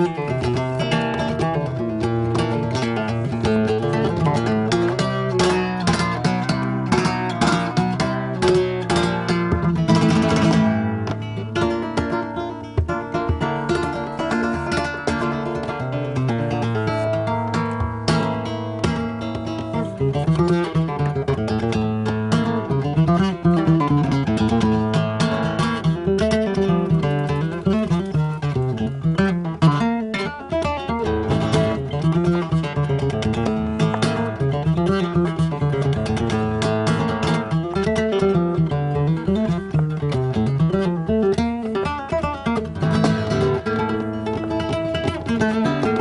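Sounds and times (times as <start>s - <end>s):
flamenco acoustic guitar: 0.0s - 46.0s.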